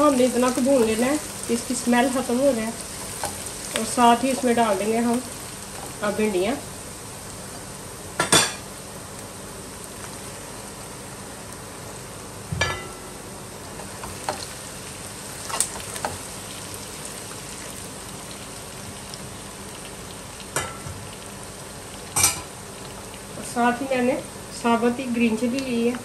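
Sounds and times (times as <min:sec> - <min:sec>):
vegetables frying in oil: 0:00.0 - 0:26.0.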